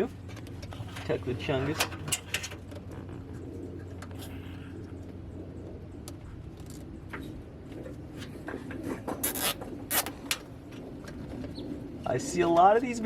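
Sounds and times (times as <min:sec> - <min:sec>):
wiring and plastic rubbing and scraping: 0:00.0 - 0:05.2, 0:06.0 - 0:13.0
steady low hum: 0:00.0 - 0:13.0.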